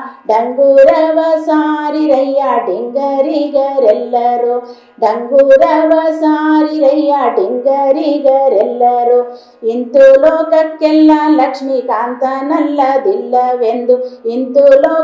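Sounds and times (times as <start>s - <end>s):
woman singing devotional song: 0.0s - 15.0s.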